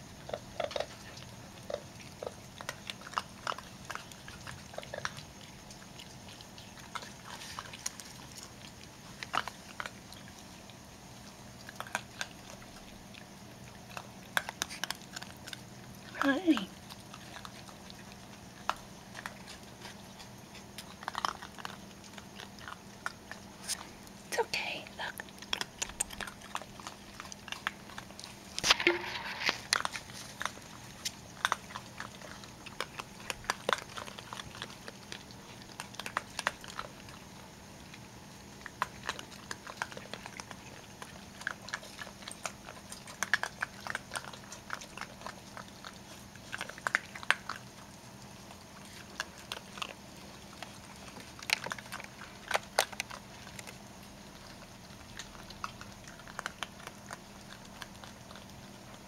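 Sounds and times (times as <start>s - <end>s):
raccoons crunching dry food: 0.0s - 59.0s.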